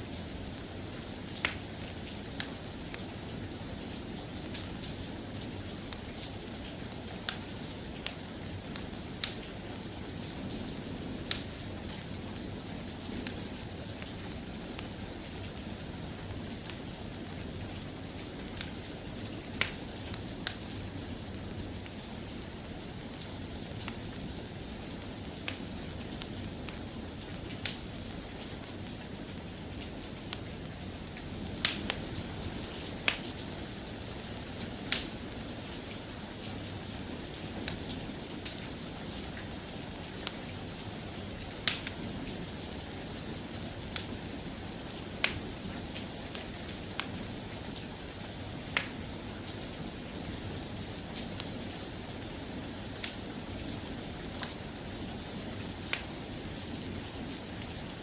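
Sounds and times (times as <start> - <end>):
soft steady rain: 0.0 - 58.0.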